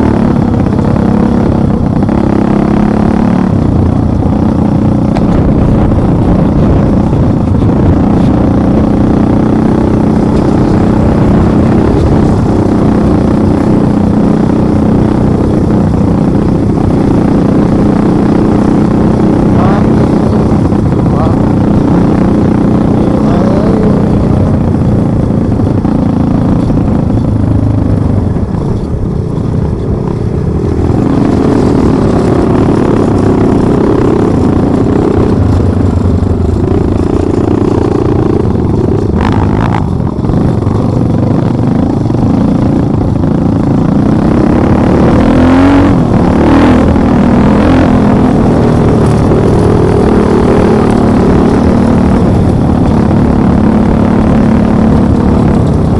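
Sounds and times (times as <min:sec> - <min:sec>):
vehicle engine revving: 0:00.0 - 0:55.9.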